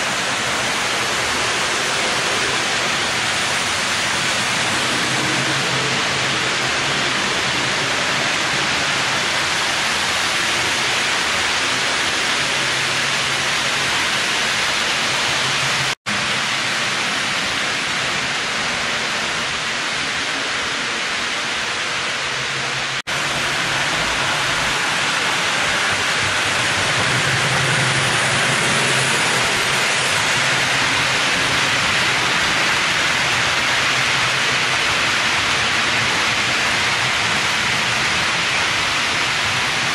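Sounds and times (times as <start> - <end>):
model trains running: 0.0 - 39.9.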